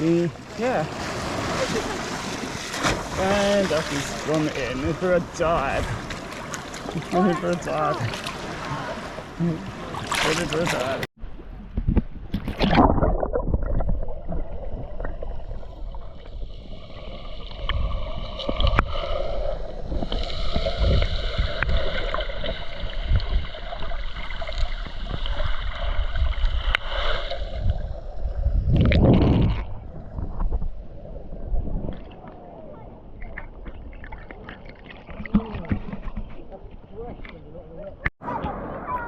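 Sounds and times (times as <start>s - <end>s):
sea water sloshing and churning: 0.2s - 11.1s, 12.2s - 37.0s.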